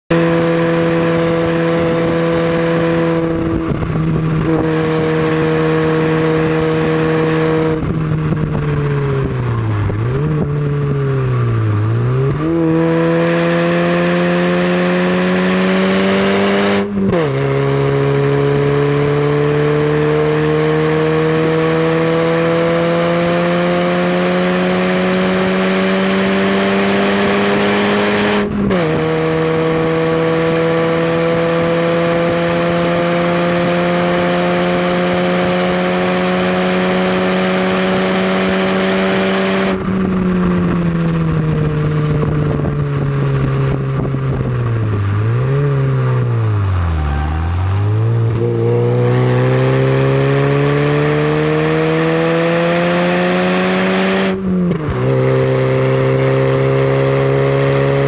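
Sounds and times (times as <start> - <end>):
car engine revving: 0.1 - 58.0.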